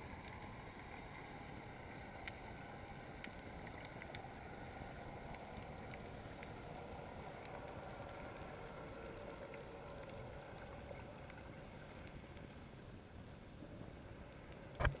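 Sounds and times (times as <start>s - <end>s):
faint ticks: 0.0s - 13.0s.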